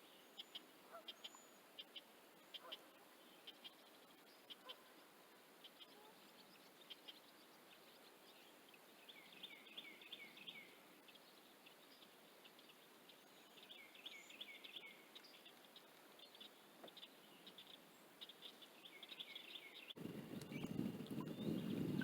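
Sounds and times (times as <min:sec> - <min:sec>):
outdoor background hiss: 0:00.0 - 0:21.0
faint birds chirping: 0:00.0 - 0:22.0.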